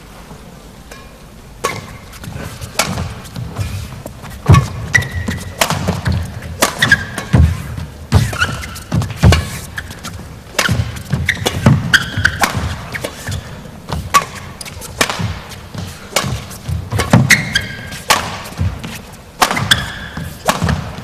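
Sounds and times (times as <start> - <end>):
racket hitting shuttlecock: 0.8 - 21.0
footfalls thudding on court: 1.7 - 21.0.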